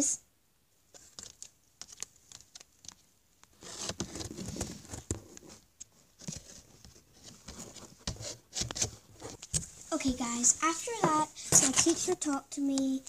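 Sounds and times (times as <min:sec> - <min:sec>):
rustling on cardboard: 0:00.9 - 0:12.3.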